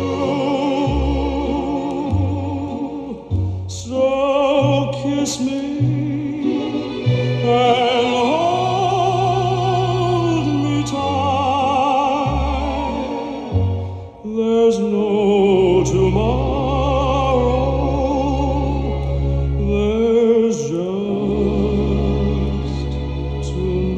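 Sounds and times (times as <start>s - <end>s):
person singing with vibrato: 0.0s - 23.9s.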